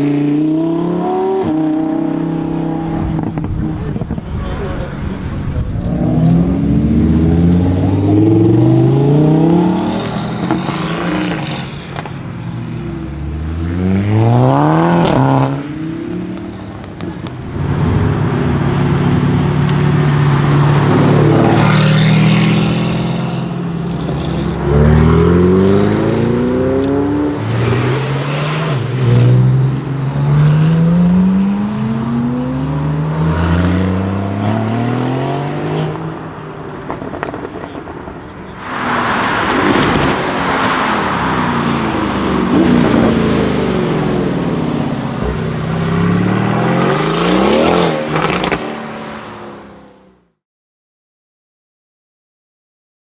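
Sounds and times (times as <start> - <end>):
car engine revving and accelerating: 0.0 - 11.8, 13.0 - 17.0, 19.0 - 37.7, 38.7 - 50.0.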